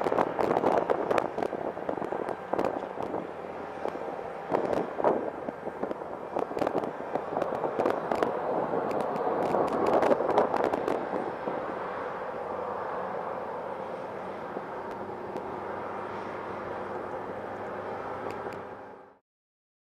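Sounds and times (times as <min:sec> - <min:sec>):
jet engines roaring: 0:00.0 - 0:19.1
jet engine whine: 0:00.0 - 0:19.2.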